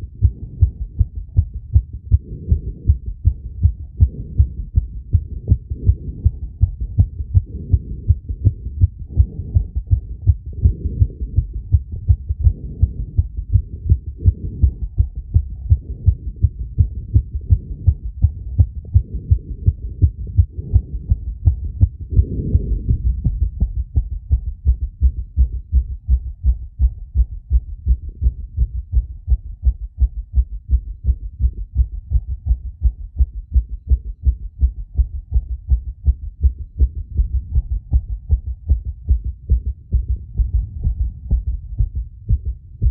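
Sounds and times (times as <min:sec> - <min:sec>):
heartbeat thumps: 0:00.0 - 0:42.9.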